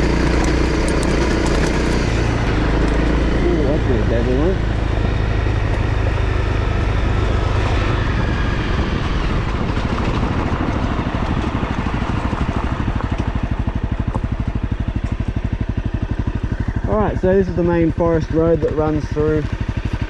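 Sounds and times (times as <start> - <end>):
motorcycle engine idling: 0.0 - 8.0, 9.6 - 20.0.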